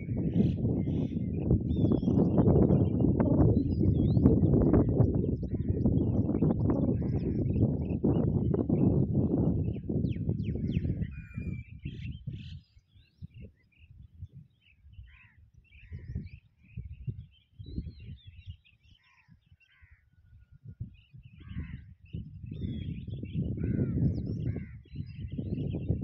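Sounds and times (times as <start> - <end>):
birds chirping and calling: 0.0 - 26.0
wind rumble on microphone: 0.0 - 26.0.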